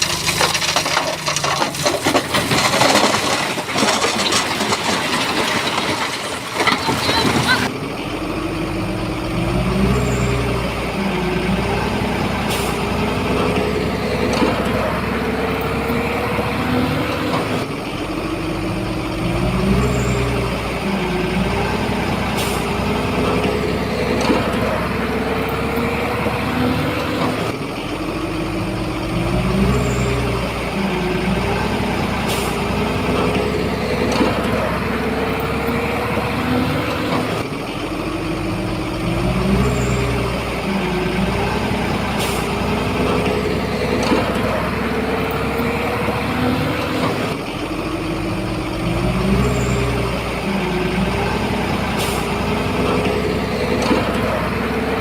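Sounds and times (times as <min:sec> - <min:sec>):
bulldozer engine under load: 0:00.0 - 0:55.0.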